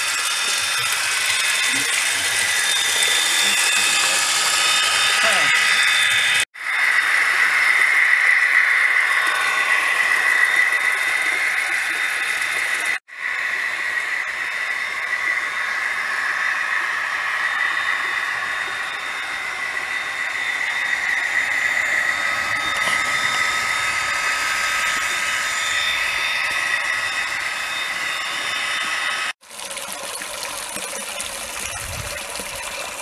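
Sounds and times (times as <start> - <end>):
faint steady whine: 0.0 - 29.4
model train motor whirring: 0.0 - 29.4.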